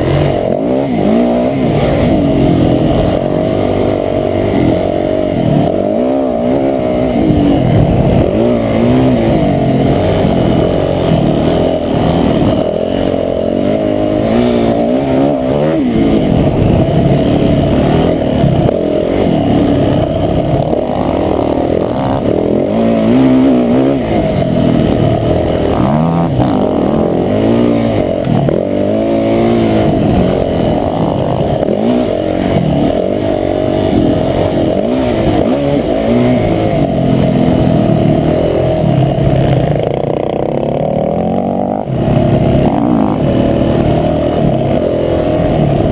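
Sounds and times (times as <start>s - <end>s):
muffled dirt bike engine revving: 0.0s - 45.9s.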